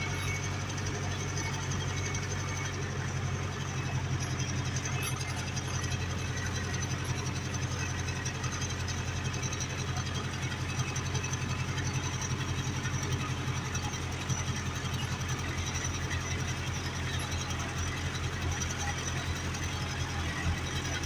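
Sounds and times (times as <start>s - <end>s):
tractor diesel engine droning: 0.0s - 21.0s.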